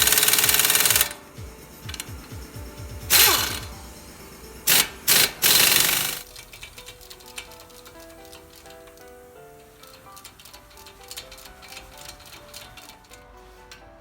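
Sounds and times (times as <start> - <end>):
compressed air tool bursts: 0.0 - 13.6
background music: 0.0 - 14.0.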